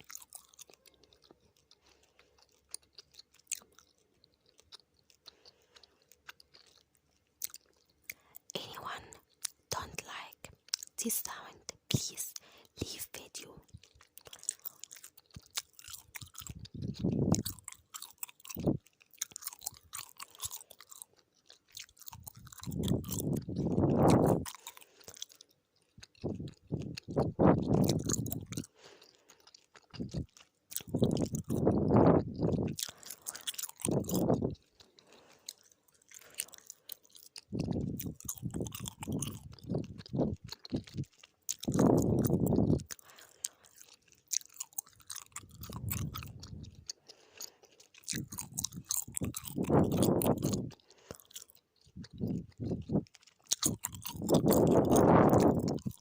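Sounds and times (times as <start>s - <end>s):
gum chewing with mouth clicks: 0.0s - 56.0s.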